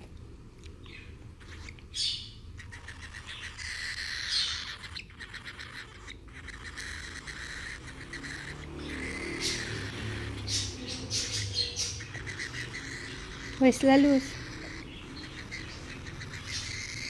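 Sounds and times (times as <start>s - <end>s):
cockatiel chirps: 0.9s - 17.0s
cockatiel pulsing chatter: 1.4s - 17.0s.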